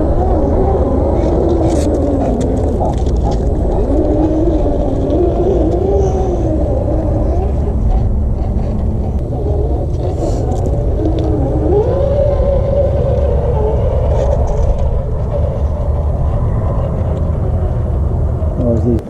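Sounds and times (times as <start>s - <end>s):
electric motor and gears whining: 0.0s - 19.0s
low rumble: 0.0s - 19.0s.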